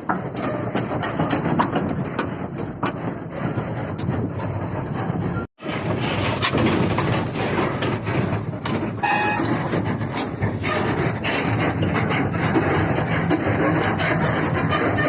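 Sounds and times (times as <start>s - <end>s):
metallic clanks and knocks: 0.0s - 15.0s.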